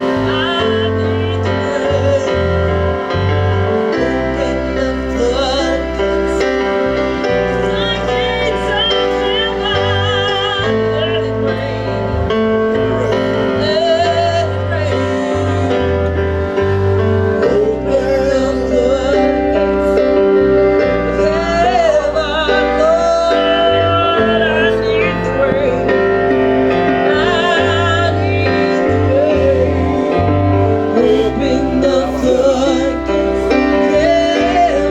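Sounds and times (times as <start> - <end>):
held keyboard chords: 0.0 - 34.9
low bass line: 0.0 - 34.9
person singing with vibrato: 0.0 - 34.9.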